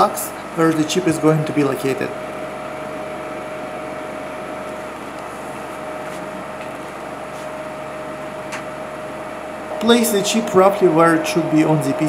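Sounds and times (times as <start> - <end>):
machine hum: 0.0 - 12.0
thin whine: 0.0 - 12.0.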